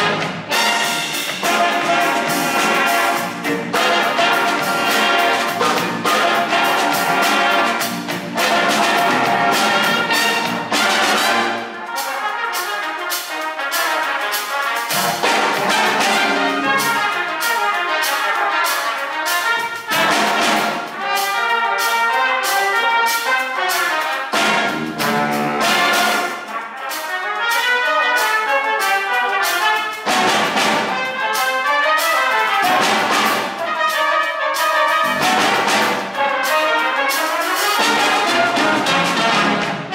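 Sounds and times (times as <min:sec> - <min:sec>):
big band playing funk: 0:00.0 - 0:39.9
drum kit: 0:00.0 - 0:39.9.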